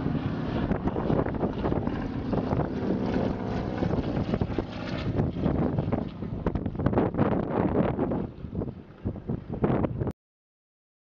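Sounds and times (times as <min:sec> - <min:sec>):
aircraft engine droning: 0:00.0 - 0:10.1
wind buffeting microphone: 0:00.0 - 0:10.1.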